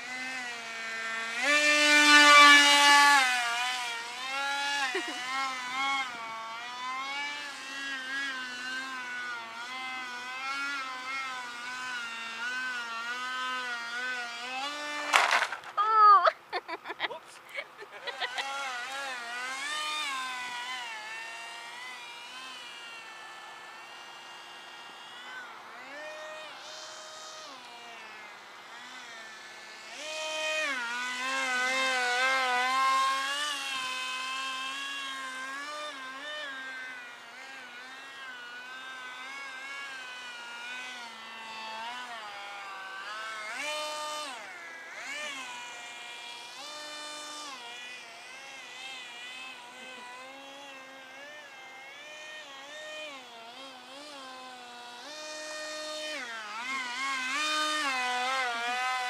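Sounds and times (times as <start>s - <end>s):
model jet motor whining: 0.0s - 59.0s.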